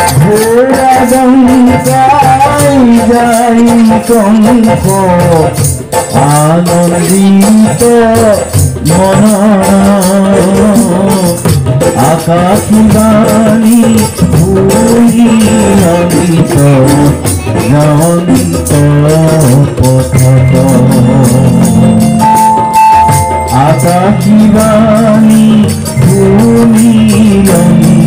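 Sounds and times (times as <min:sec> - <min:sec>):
light shaken percussion: 0:00.0 - 0:28.0.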